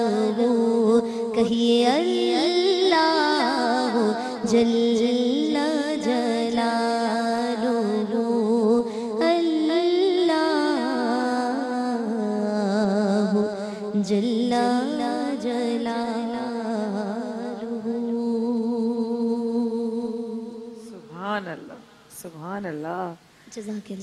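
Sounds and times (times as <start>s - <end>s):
woman singing into microphone: 0.0s - 21.1s.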